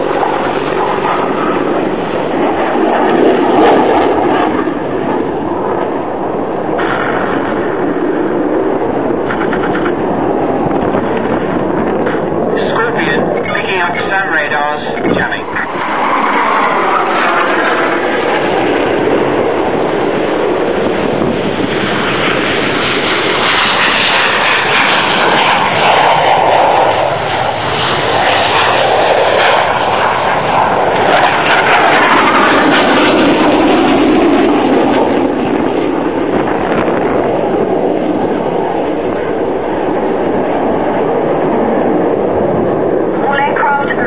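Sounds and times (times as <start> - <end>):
jet roar: 0.0 - 44.0.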